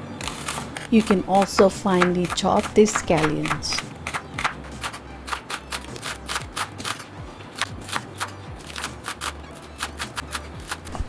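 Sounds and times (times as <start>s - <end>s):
knife chopping on cutting board: 0.2s - 11.0s.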